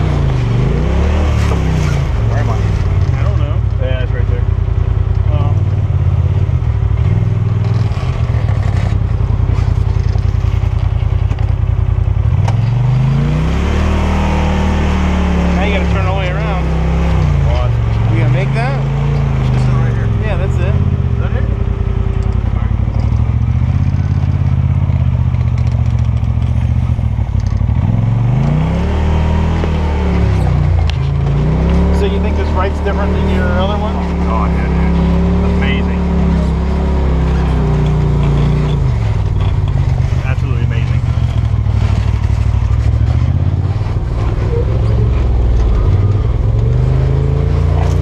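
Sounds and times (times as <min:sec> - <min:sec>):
turbocharged engine running: 0:00.0 - 0:48.0.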